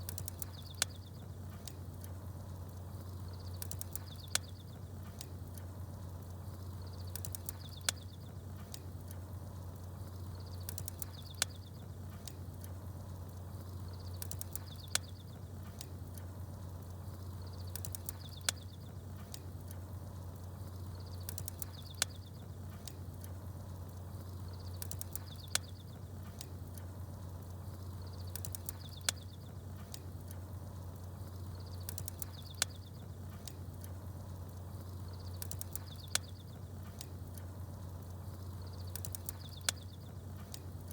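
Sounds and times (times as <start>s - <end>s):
campfire burning: 0.0s - 40.9s
small birds chirping: 0.0s - 40.9s.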